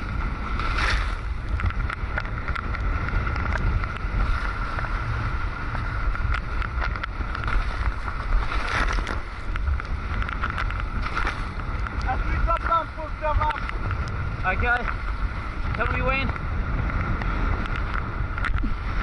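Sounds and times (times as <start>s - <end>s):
water rushing past hull: 0.0s - 19.0s
wind rumbling on microphone: 0.0s - 19.0s.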